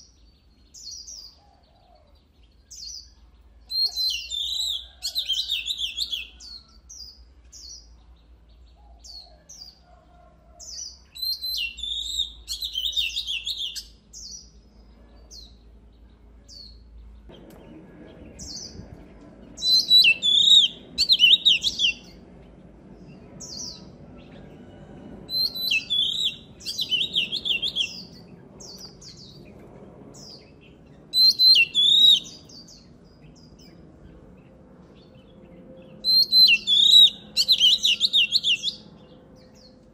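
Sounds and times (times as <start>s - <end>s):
bird singing varied phrases: 0.0s - 9.8s, 10.6s - 18.9s, 19.6s - 22.3s, 25.3s - 29.5s, 30.2s - 33.8s, 35.0s - 39.8s.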